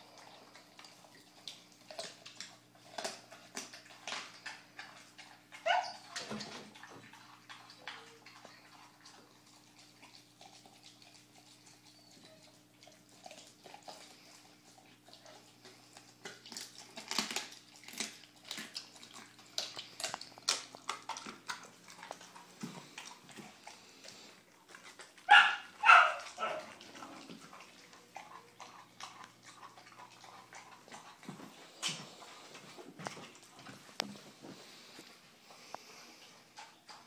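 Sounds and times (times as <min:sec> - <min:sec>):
dog crunching raw chicken: 0:00.0 - 0:37.0
faint steady hum: 0:00.0 - 0:37.0.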